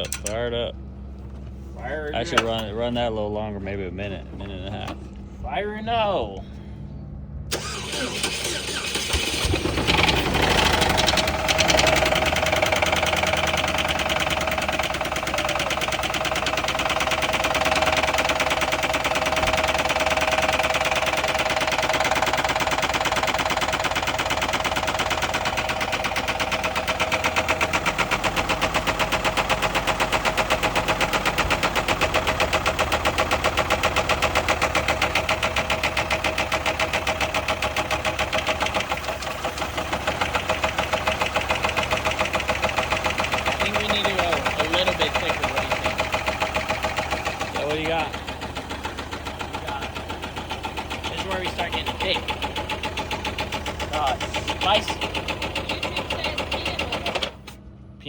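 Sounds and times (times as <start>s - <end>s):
car engine with rod knock: 9.9s - 14.7s, 15.3s - 57.6s.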